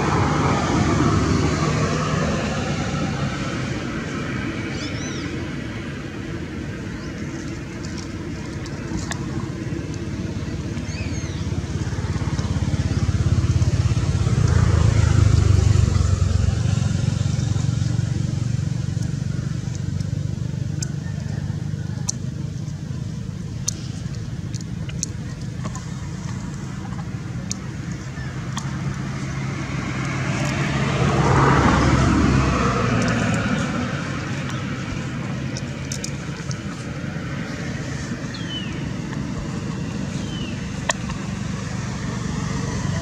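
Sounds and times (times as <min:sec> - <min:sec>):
passing motor vehicle rumble: 0:00.0 - 0:43.0.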